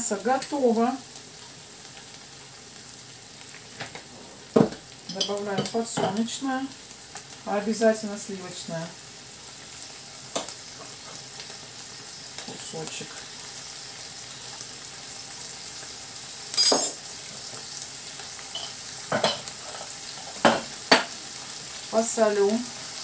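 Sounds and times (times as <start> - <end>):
meat sizzling in a frying pan: 0.0 - 23.0.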